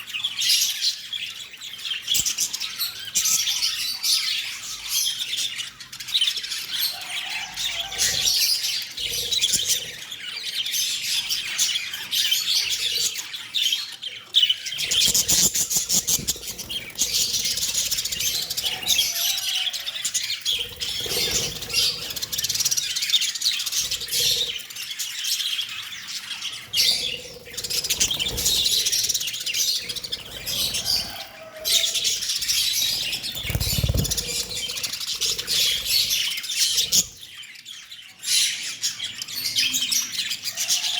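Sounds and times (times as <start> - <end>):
parrots chattering and squawking: 0.0 - 40.9.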